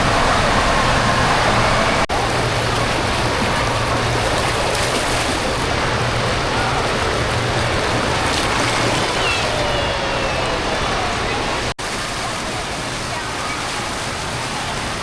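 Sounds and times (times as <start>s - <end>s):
running and splashing water: 0.0s - 15.0s.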